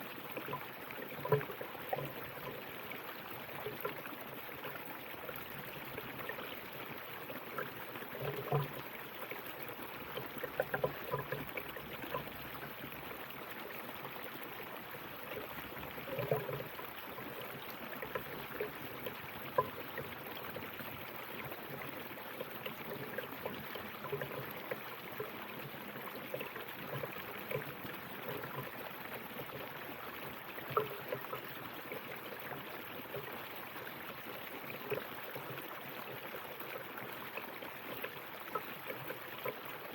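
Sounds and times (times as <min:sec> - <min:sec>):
water splashing and gurgling: 0:00.0 - 0:39.9.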